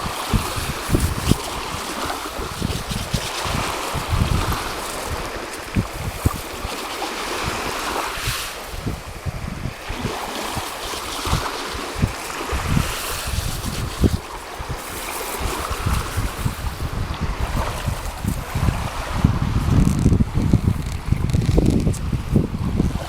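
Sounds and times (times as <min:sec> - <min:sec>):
sea waves washing in: 0:00.0 - 0:23.0
wind buffeting microphone: 0:00.0 - 0:23.0.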